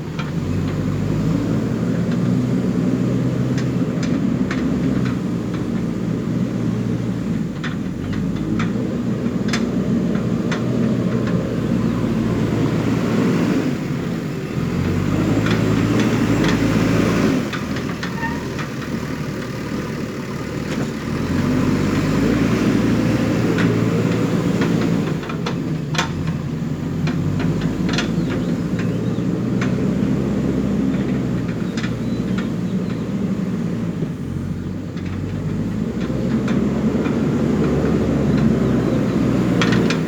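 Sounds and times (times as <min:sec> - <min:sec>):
diesel engine working: 0:00.0 - 0:40.0.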